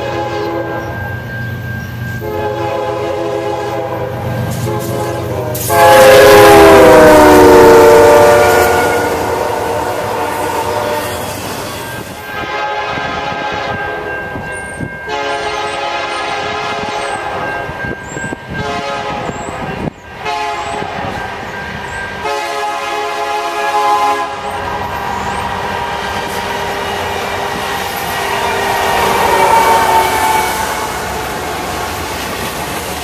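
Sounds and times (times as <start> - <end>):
train air horn blasts: 0.0 - 1.0, 2.2 - 14.2, 15.0 - 17.7, 18.3 - 21.5, 22.2 - 31.8
passing train rumbling: 0.0 - 33.0.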